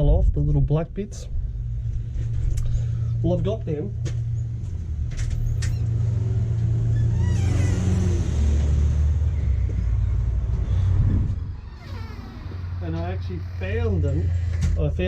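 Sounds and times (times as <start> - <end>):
motor vehicle rumble: 0.0 - 15.0.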